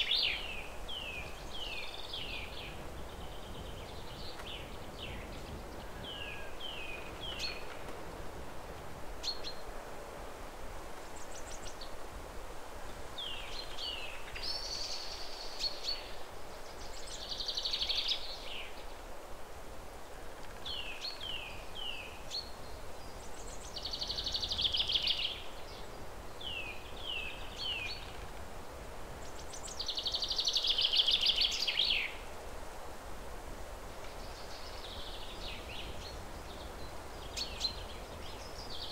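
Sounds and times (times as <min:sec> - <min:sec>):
songbird chirps and trills: 0:00.0 - 0:08.0, 0:12.8 - 0:19.0, 0:20.2 - 0:32.3, 0:33.9 - 0:38.9
steady hiss: 0:00.0 - 0:38.9.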